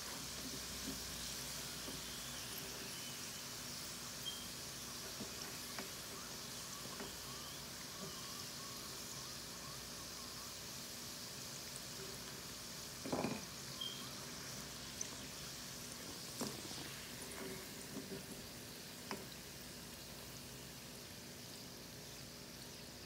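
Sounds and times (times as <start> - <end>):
oil sizzling in a pan: 0.0 - 23.0.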